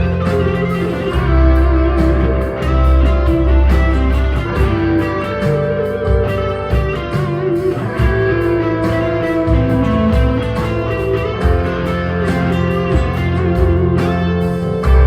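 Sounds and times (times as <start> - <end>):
electric guitar lead: 0.0 - 15.0
low bass notes: 0.0 - 15.0
steady beat: 0.0 - 15.0.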